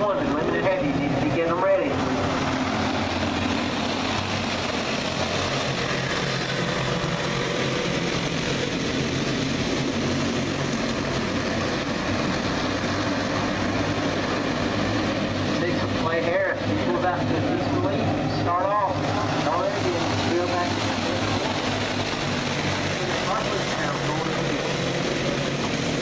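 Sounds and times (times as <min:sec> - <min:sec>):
racing kart engines droning: 0:00.0 - 0:26.0.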